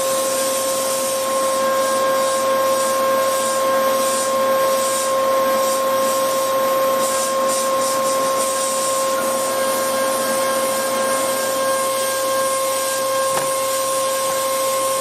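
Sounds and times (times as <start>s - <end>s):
hiss of metal cutting: 0.0s - 15.0s
milling spindle whine: 0.0s - 15.0s.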